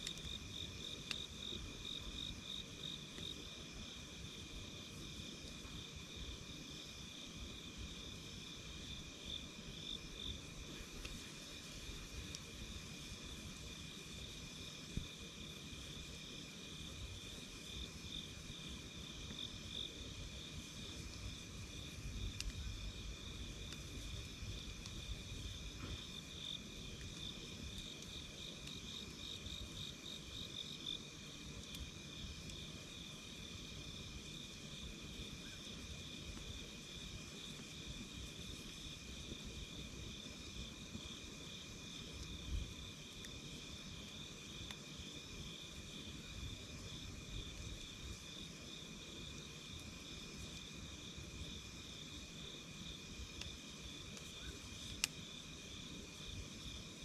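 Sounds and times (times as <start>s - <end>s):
campfire crackling: 0.0s - 57.0s
night insects chirping: 0.0s - 57.0s.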